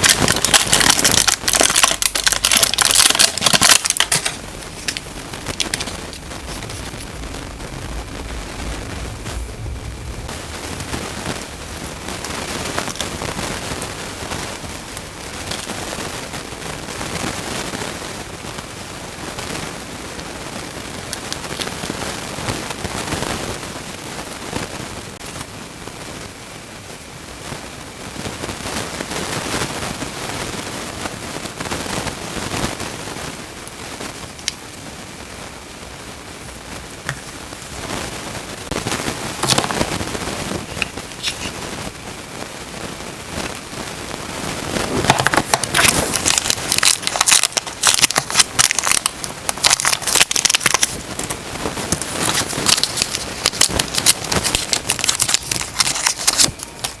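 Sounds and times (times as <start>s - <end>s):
crackling rustling noise: 0.0s - 57.0s.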